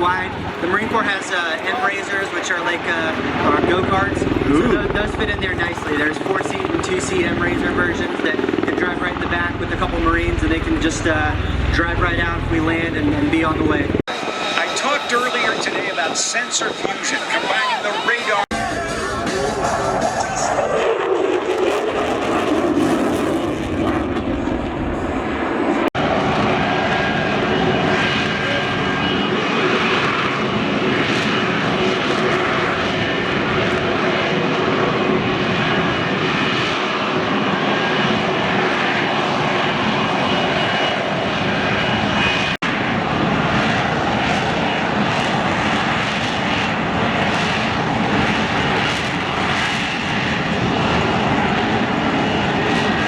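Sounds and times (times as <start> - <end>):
military aircraft engine noise: 0.0 - 53.0.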